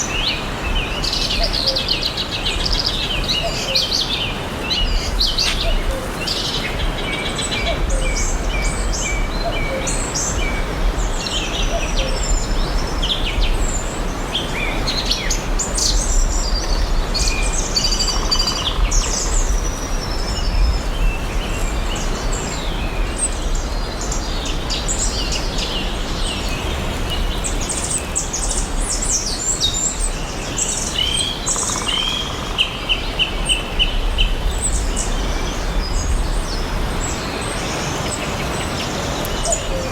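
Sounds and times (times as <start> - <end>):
forest birds chirping and singing: 0.0 - 39.9.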